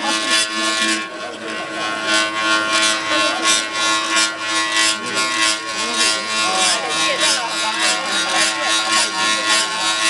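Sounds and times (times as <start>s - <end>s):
bowl humming tones: 0.0s - 10.0s
hands rasping on handles: 0.0s - 10.0s.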